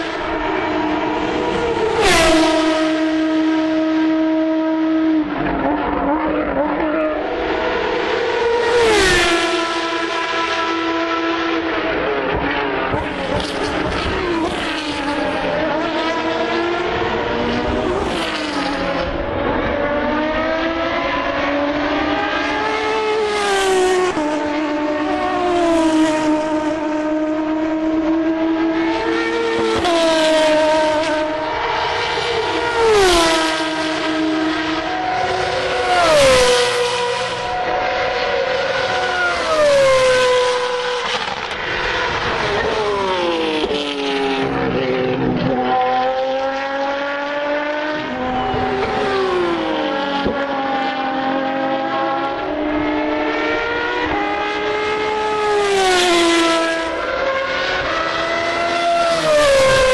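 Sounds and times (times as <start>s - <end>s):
race cars passing at speed: 0.0s - 59.9s.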